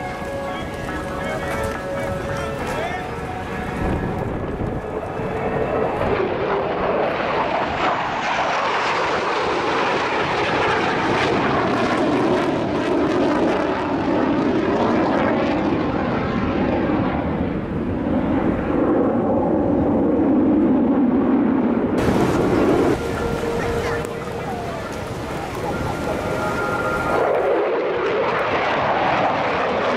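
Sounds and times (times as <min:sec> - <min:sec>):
jet fighters flying past: 0:00.0 - 0:29.9.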